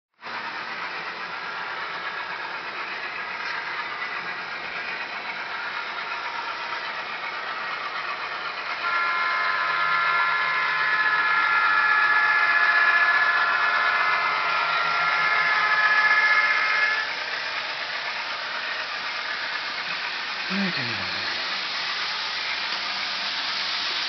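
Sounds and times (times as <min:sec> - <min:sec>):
model train mechanical whir: 0:00.2 - 0:24.0
steady whine: 0:00.3 - 0:24.0.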